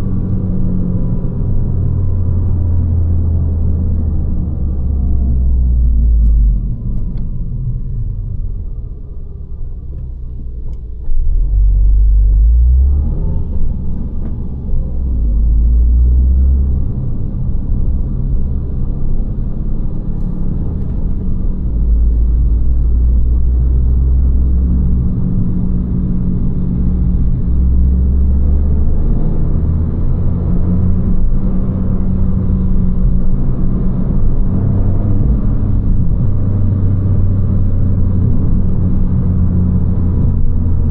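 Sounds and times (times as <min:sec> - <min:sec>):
car engine and exhaust rumbling: 0:00.0 - 0:40.9.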